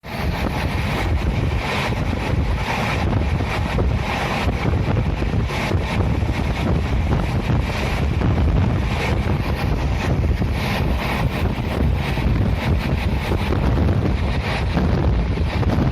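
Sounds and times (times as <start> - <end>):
train rumbling: 0.0 - 15.9
wind on microphone: 0.0 - 15.9.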